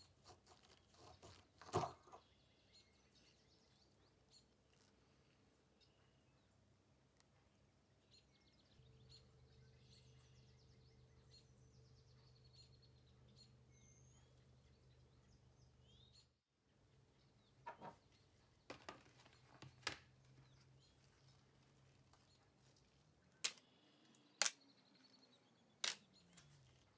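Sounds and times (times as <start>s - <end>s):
faint birds chirping: 0.0s - 26.9s.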